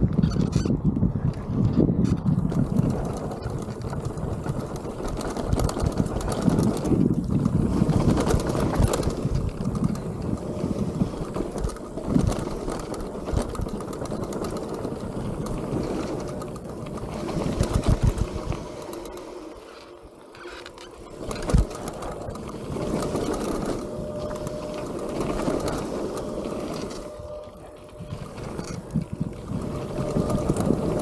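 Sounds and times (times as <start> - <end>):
wind buffeting microphone: 0.0 - 20.1, 20.7 - 31.0
bike rattling over bumps: 0.0 - 31.0
bike tyres on dirt: 0.0 - 31.0.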